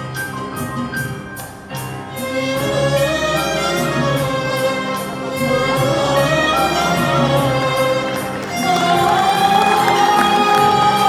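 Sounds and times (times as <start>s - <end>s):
violins playing melody: 1.7s - 11.0s.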